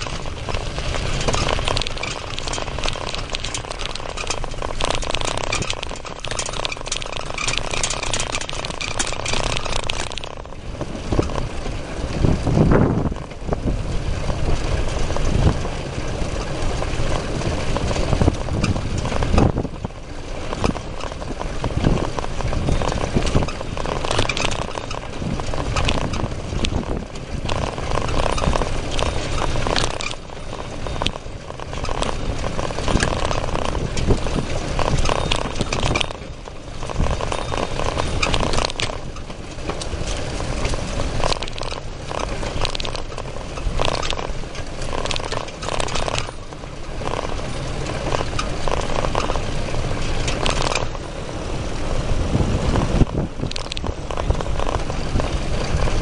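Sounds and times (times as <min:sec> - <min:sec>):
bicycle knocks and rattles: 0:00.0 - 0:51.2, 0:51.8 - 0:56.0
bicycle riding rush: 0:00.0 - 0:56.0.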